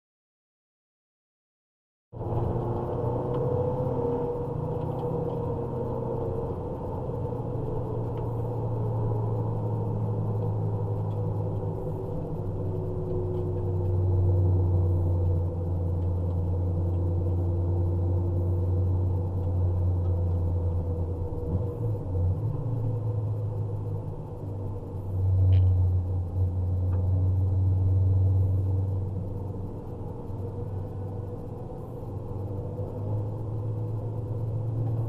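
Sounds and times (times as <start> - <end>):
car engine and road drone: 2.1 - 35.0.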